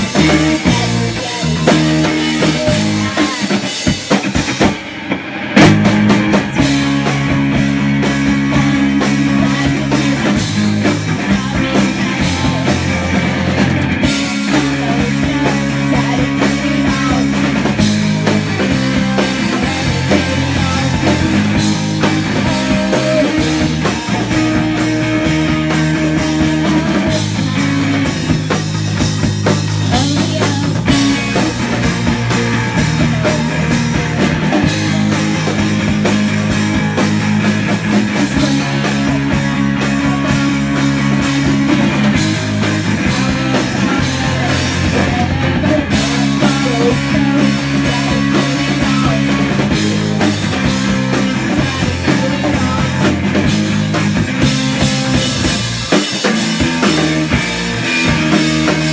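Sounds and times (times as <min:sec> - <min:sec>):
live rock band playing: 0:00.0 - 0:58.9.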